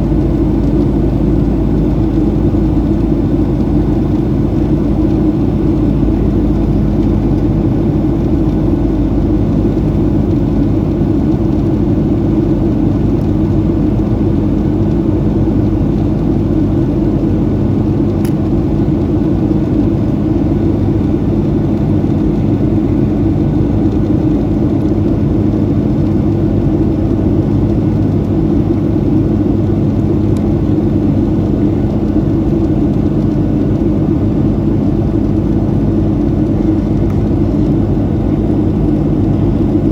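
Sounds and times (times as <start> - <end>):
airplane cabin engine roar: 0.0 - 39.9
low hum: 0.0 - 39.9.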